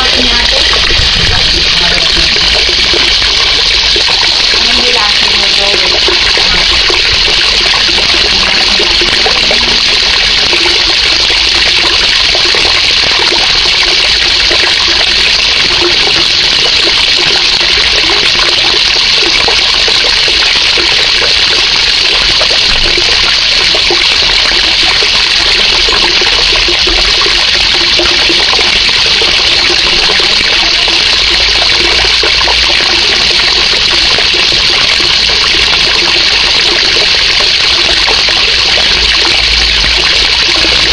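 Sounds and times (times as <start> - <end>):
water jet splashing into pond: 0.0 - 40.9.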